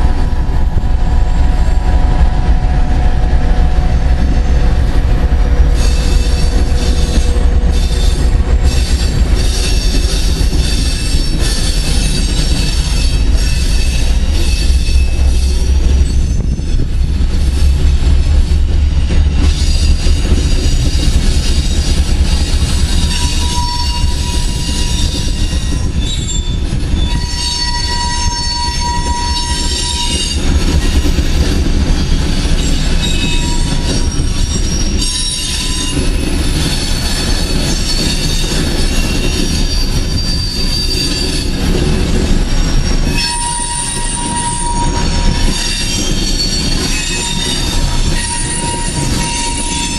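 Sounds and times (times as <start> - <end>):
train cars rumbling on rails: 0.0 - 49.9
steel wheels squealing: 5.6 - 17.6, 19.1 - 49.9.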